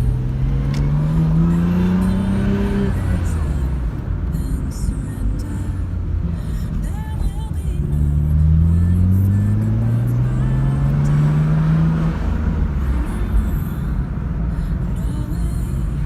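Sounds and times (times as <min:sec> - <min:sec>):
car engine accelerating: 0:00.0 - 0:16.0
car engine low rumble: 0:00.0 - 0:16.0.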